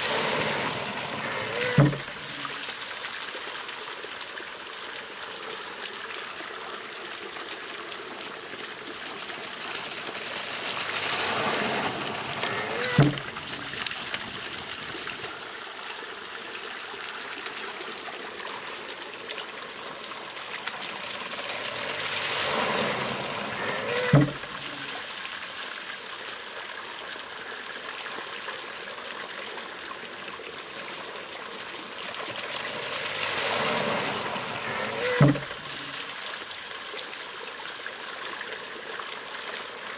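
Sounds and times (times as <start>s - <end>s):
stream trickling: 0.0s - 39.9s
water rushing and spilling: 0.0s - 39.9s.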